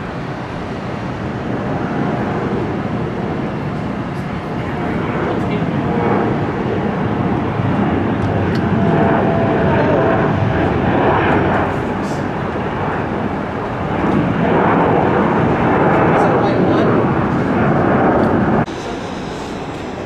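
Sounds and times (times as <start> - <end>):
jet taking off: 0.0 - 20.0.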